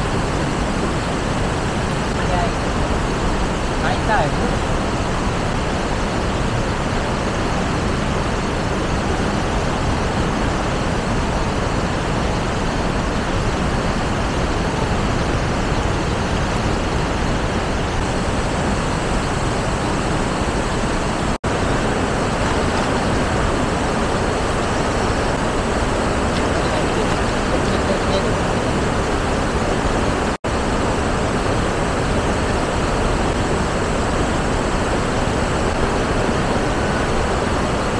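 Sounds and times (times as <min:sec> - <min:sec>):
river water rushing over rocks: 0:00.0 - 0:37.9.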